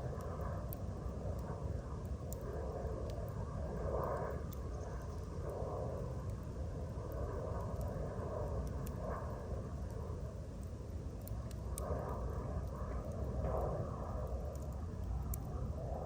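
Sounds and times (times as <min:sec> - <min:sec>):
campfire crackling and popping: 0:00.0 - 0:16.0
fire low rumble: 0:00.0 - 0:16.0.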